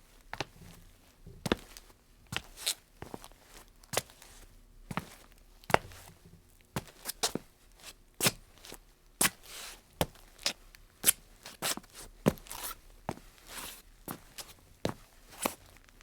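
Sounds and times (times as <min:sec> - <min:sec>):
shoes scuffing and sliding: 0:01.4 - 0:06.2, 0:06.8 - 0:15.8.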